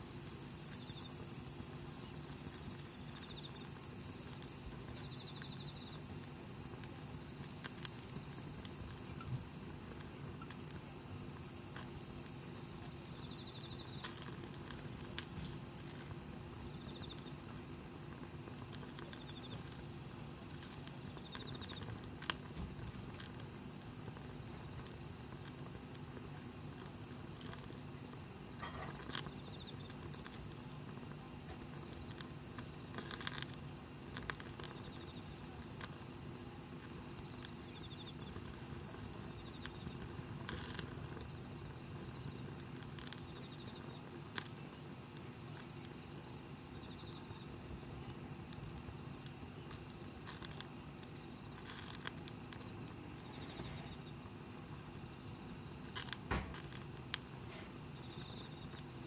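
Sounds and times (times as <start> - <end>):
insects chirping in trills: 0.0 - 59.0.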